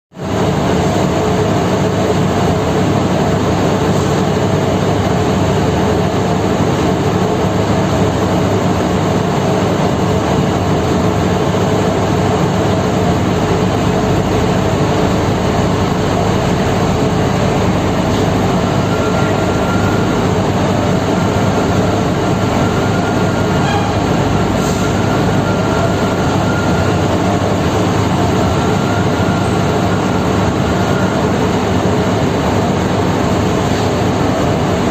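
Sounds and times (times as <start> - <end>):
diesel engines droning: 0.2 - 34.9.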